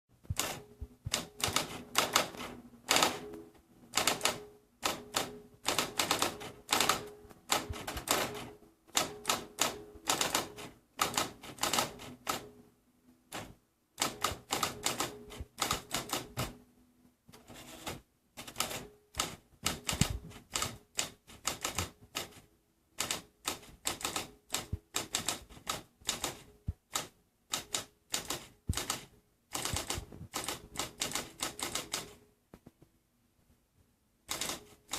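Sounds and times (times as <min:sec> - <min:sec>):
typewriter keys clacking: 0:00.3 - 0:03.4, 0:04.0 - 0:12.5, 0:13.3 - 0:16.5, 0:17.4 - 0:22.4, 0:23.0 - 0:32.2, 0:34.3 - 0:34.9.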